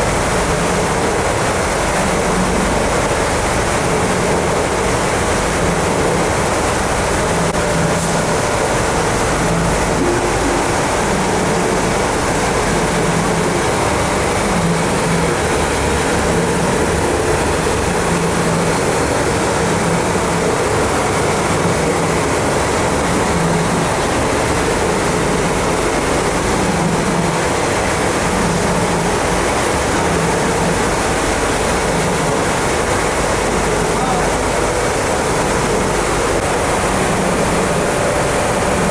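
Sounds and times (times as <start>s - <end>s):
pulsing low machinery hum: 0.0s - 38.9s
ventilation air rush: 0.0s - 38.9s.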